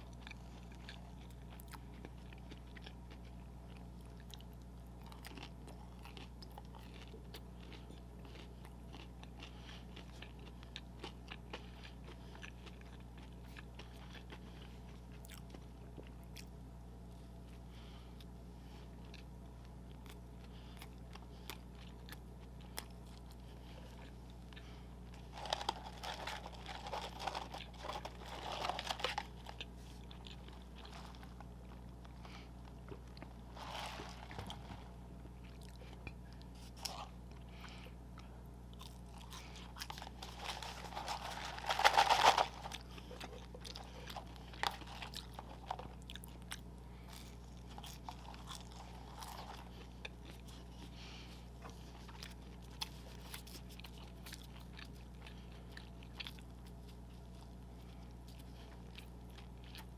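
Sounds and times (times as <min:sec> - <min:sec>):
person crunching and chewing food: 0:00.0 - 0:59.9.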